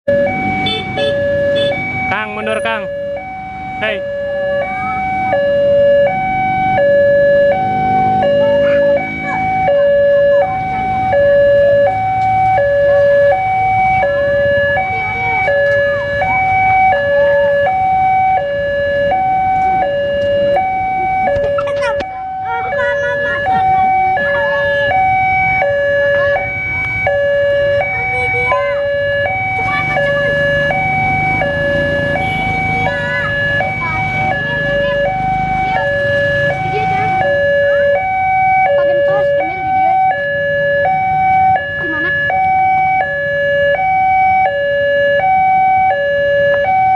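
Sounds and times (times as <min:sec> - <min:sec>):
level crossing two-tone alarm: 0:00.1 - 0:46.9.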